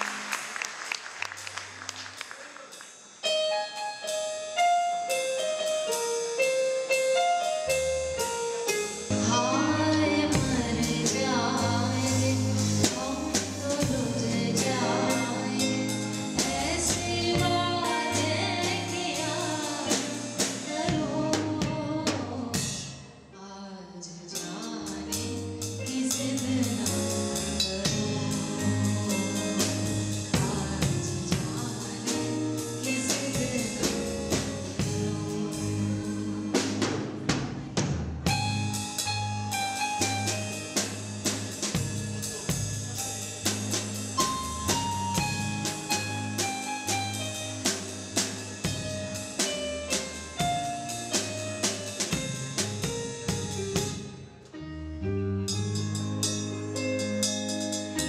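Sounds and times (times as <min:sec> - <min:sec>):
live band music with singing: 0:00.0 - 0:58.0.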